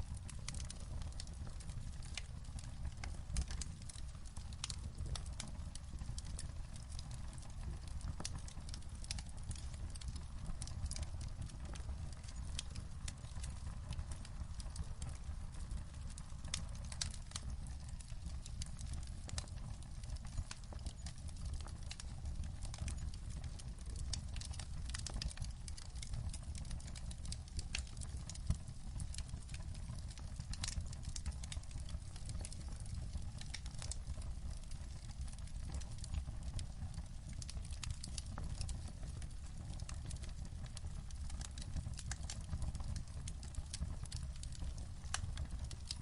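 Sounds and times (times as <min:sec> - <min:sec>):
fire crackling and popping: 0:00.0 - 0:46.0.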